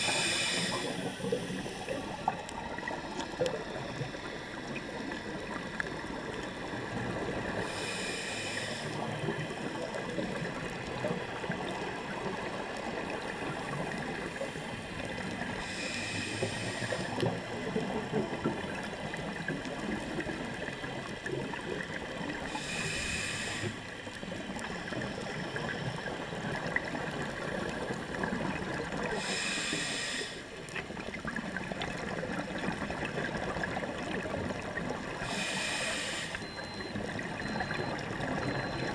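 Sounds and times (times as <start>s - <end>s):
underwater hiss and crackle: 0.0s - 38.9s.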